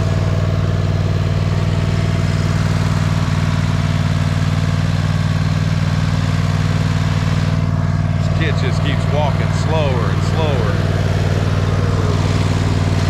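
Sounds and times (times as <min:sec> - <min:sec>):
lawn mower engine humming: 0:00.0 - 0:13.0.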